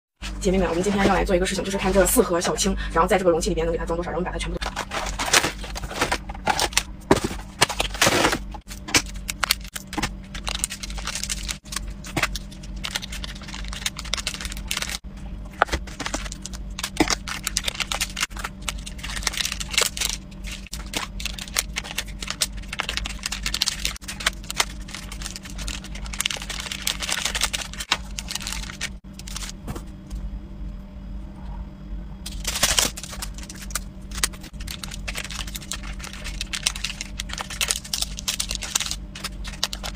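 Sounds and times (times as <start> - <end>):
foil sachets crinkling: 4.6 - 29.6, 32.2 - 39.9.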